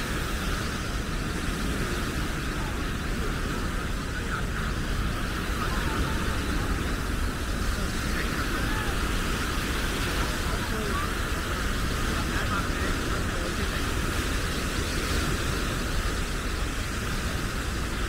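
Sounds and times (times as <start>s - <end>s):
faint distant voices: 0.0s - 18.0s
surf washing on shore: 0.0s - 18.0s
wind buffeting microphone: 0.0s - 18.0s.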